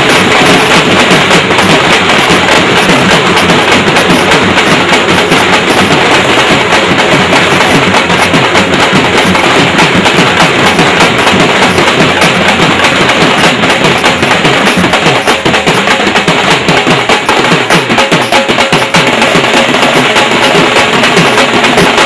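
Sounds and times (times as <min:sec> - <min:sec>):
barrel drum beaten fast: 0:00.0 - 0:22.0
music: 0:00.0 - 0:22.0.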